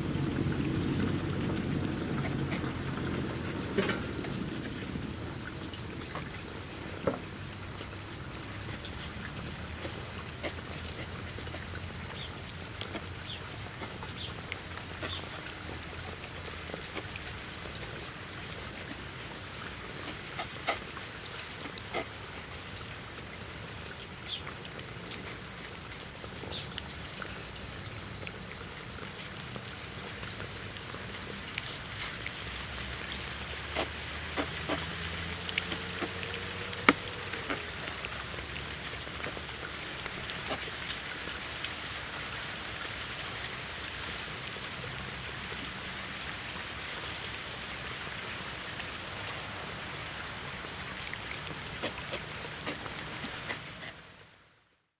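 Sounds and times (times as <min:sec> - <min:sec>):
cats chewing and licking: 0:00.0 - 0:23.2, 0:24.5 - 0:44.6, 0:48.9 - 0:54.0.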